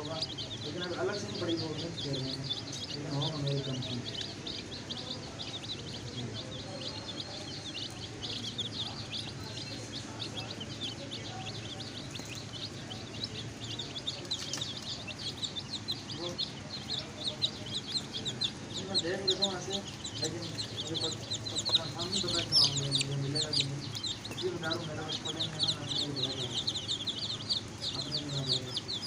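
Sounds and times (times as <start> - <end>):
baby chicks peeping: 0.0 - 29.0.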